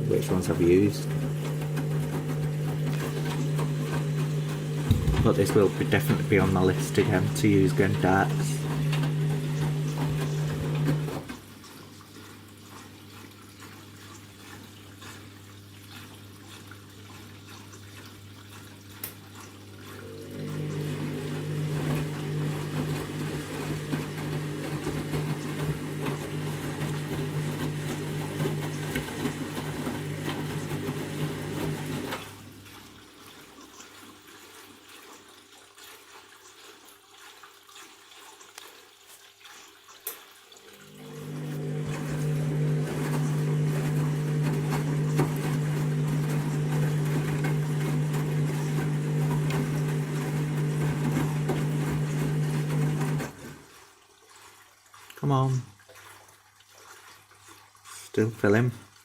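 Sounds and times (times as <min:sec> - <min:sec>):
water rushing into washing machine: 0:00.0 - 0:59.0.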